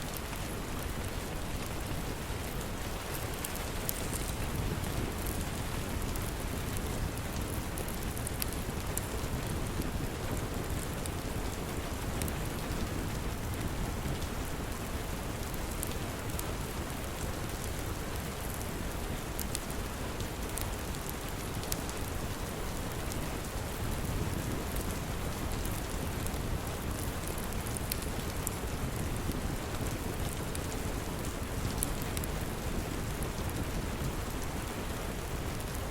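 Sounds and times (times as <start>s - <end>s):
steady rain: 0.0s - 35.9s
wood fire crackling: 0.0s - 35.9s.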